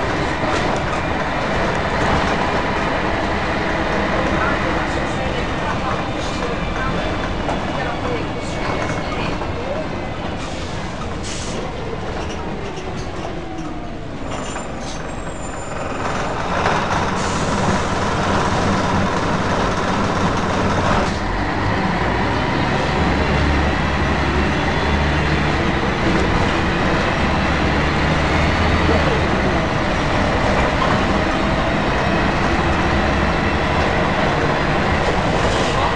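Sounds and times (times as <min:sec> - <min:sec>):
bus diesel engine: 0:00.0 - 0:35.9.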